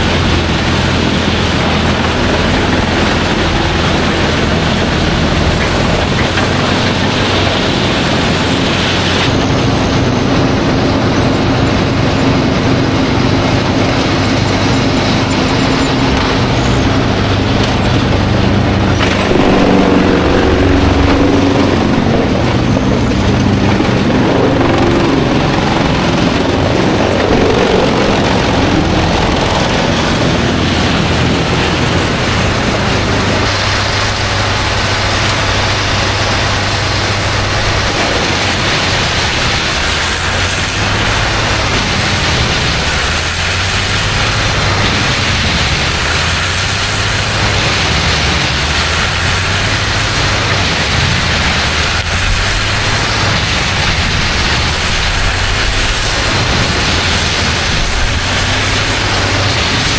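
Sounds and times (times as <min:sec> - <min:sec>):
wood chipper chipping logs: 0:00.0 - 0:59.9.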